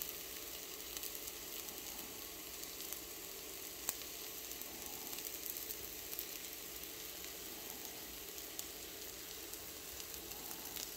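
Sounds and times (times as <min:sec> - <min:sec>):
faint crackles: 0:00.0 - 0:10.9
food sizzling in a pan: 0:00.0 - 0:10.9.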